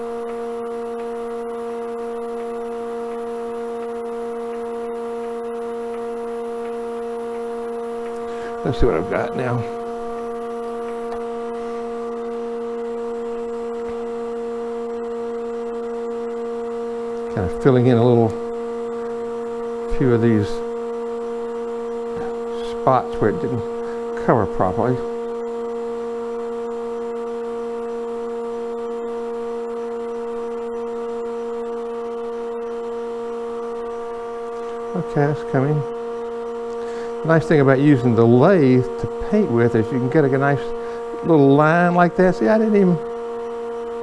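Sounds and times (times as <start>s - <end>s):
lathe motor humming: 0.0s - 44.0s.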